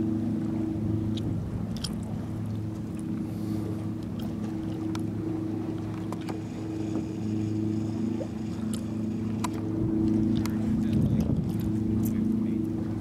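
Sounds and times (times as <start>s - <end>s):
steady engine hum: 0.0s - 13.0s.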